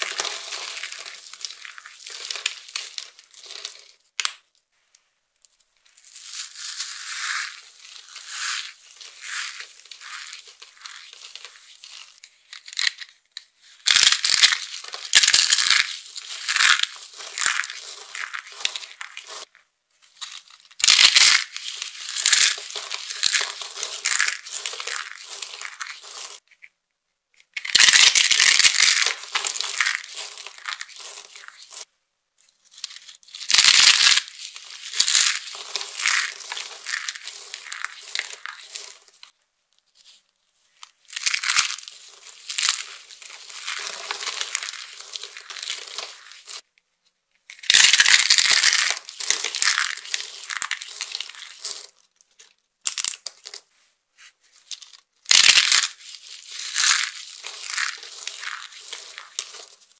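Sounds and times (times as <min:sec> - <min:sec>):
dry soap crumbling and crunching: 0:00.0 - 0:04.5, 0:05.5 - 0:26.7, 0:27.4 - 0:46.7, 0:47.4 - 0:59.9.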